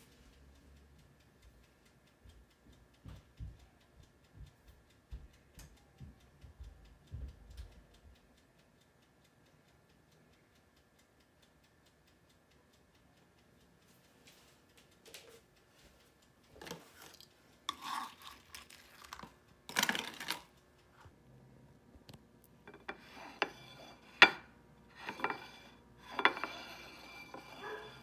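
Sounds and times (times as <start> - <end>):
faint regular ticking: 0.0 - 28.0.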